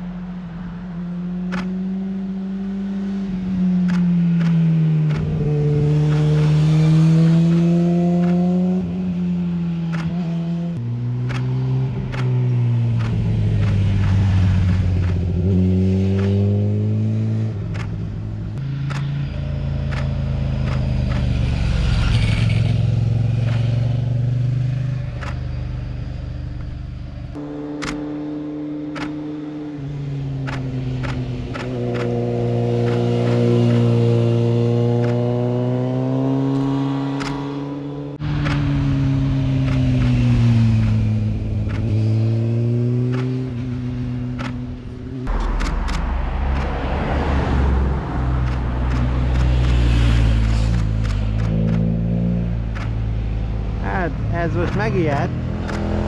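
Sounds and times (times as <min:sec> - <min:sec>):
motorcycle engines passing: 0:00.1 - 0:56.0.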